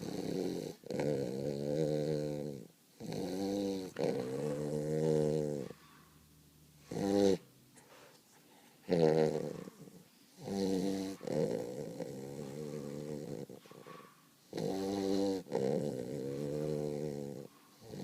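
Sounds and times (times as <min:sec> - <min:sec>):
puppy snoring: 0:00.0 - 0:06.0, 0:06.8 - 0:07.5, 0:08.8 - 0:18.0.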